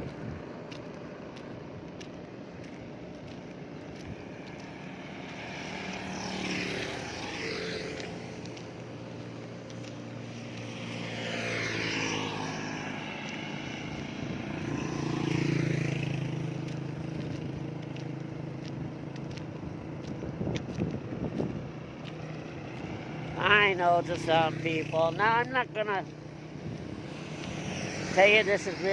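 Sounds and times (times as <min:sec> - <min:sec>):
vehicles driving past: 0:00.0 - 0:28.9.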